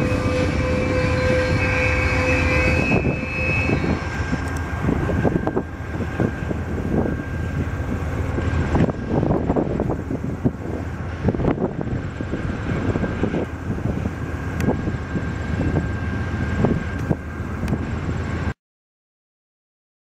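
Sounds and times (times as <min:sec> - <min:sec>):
high whine: 0:00.0 - 0:18.6
train cars rumbling past: 0:00.0 - 0:18.6.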